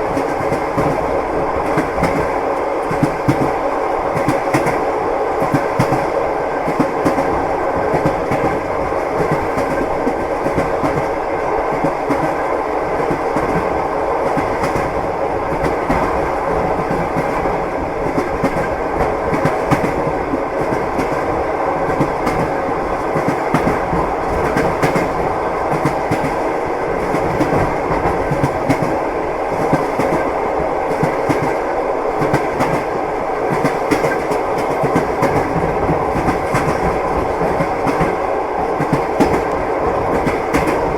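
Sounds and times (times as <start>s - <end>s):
train carriage rumble: 0.0s - 40.9s
train wheels clacking on rail joints: 0.1s - 40.9s.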